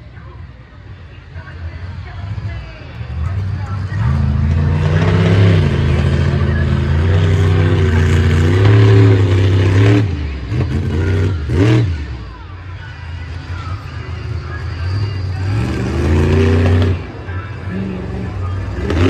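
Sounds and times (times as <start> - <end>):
truck engine revving hard: 2.3 - 12.3, 13.3 - 19.0.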